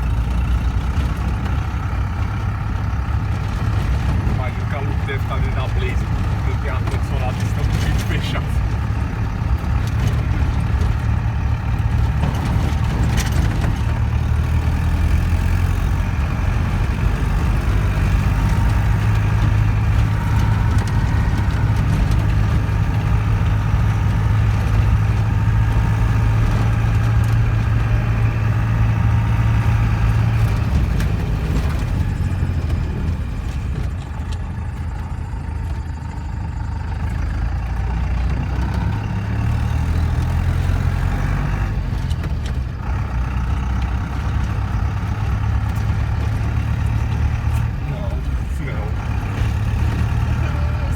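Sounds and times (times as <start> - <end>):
road noise: 0.0 - 50.9
vehicle engine running: 0.0 - 50.9.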